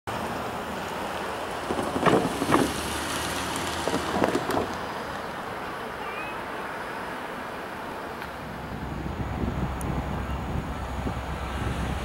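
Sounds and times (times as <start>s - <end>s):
outdoor background noise: 0.1s - 12.0s.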